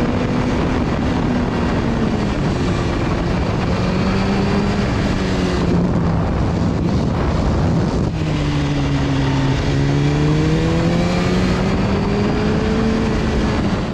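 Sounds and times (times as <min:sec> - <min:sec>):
heavy wind rush: 0:00.0 - 0:13.9
motorcycle engine running: 0:00.0 - 0:13.9.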